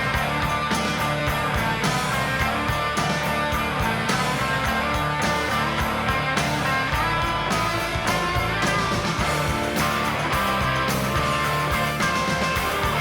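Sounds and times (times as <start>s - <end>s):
bass: 0.0s - 13.0s
electric guitars: 0.0s - 13.0s
steady drum beat: 0.0s - 13.0s.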